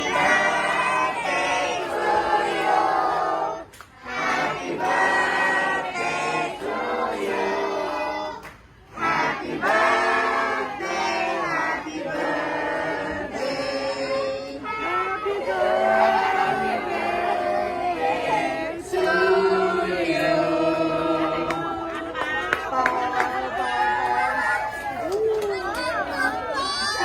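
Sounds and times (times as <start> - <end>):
group singing birthday song: 0.0 - 25.0.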